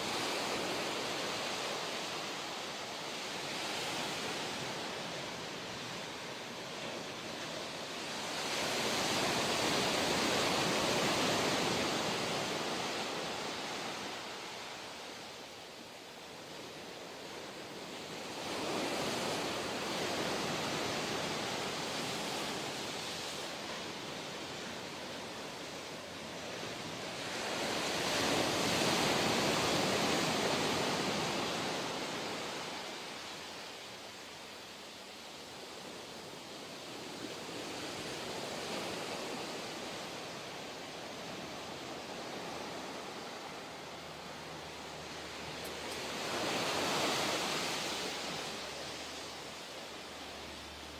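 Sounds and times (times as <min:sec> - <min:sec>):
ocean waves breaking: 0:00.0 - 0:15.5, 0:16.2 - 0:34.2, 0:35.4 - 0:50.9.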